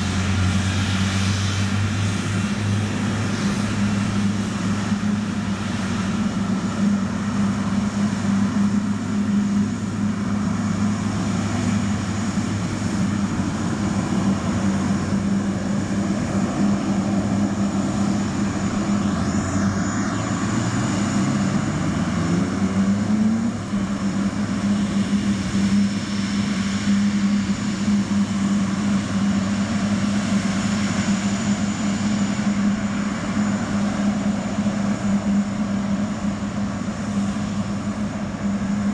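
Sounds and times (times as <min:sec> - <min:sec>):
faint high engine whine: 0:00.0 - 0:38.9
jet engines droning: 0:00.0 - 0:38.9.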